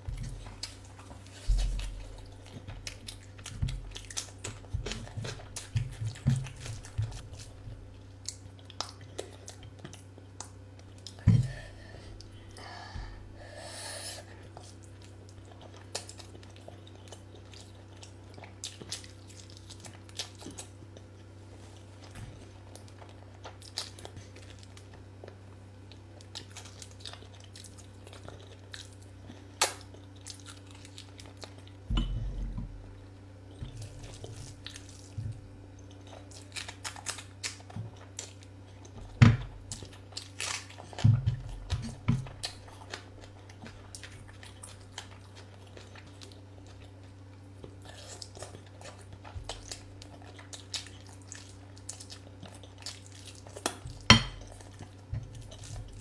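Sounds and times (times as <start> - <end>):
chewing and crunching: 0.0 - 12.7, 14.4 - 56.0
steady low hum: 0.0 - 56.0.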